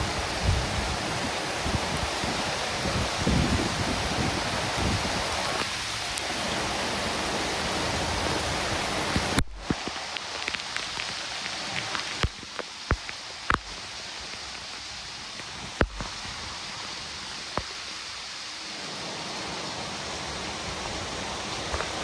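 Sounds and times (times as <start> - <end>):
heavy rain hissing: 0.0 - 22.0
raindrops striking surfaces: 0.0 - 22.0.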